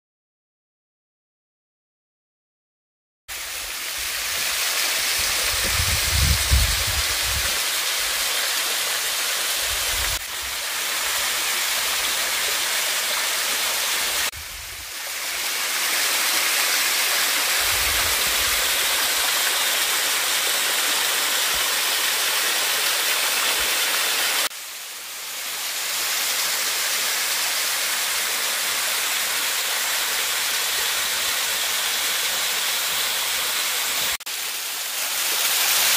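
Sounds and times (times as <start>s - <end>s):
waterfall rushing: 3.4s - 24.5s, 25.2s - 35.9s.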